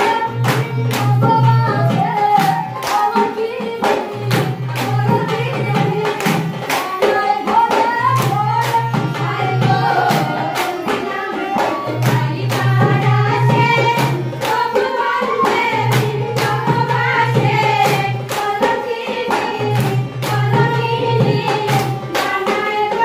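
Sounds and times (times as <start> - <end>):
rhythmic hand clapping: 0.0 - 23.0
women singing folk song: 0.0 - 23.0.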